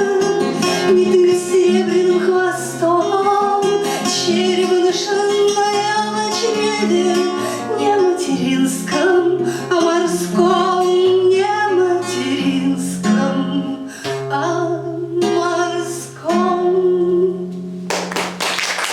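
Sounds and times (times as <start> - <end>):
woman singing wordless melody: 0.0 - 17.8
fingerpicked acoustic guitar: 0.0 - 18.4.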